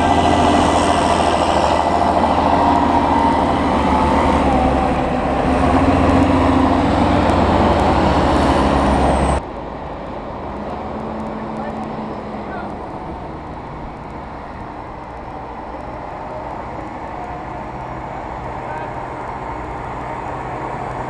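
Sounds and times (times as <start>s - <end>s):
tractor engines under load: 0.0s - 21.0s.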